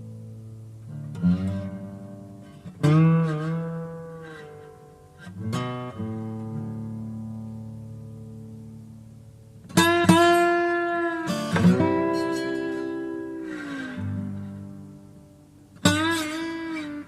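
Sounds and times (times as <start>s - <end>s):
acoustic guitar chords ringing: 0.0s - 17.0s.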